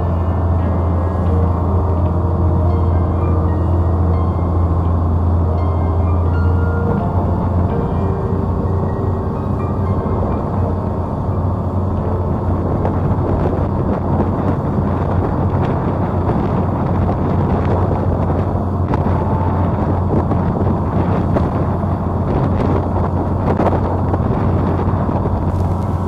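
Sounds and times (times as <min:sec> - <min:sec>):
boat engine droning: 0:00.0 - 0:26.0
wind buffeting microphone: 0:00.0 - 0:26.0.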